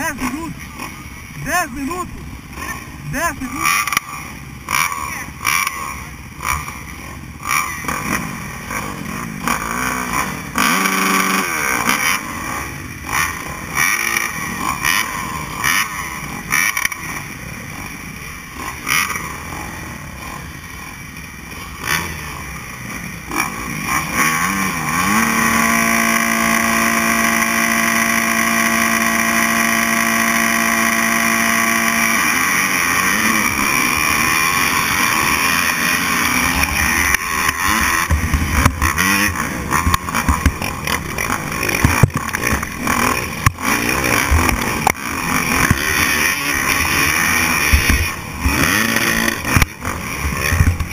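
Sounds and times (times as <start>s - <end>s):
motocross bike engines revving: 0.0s - 50.9s.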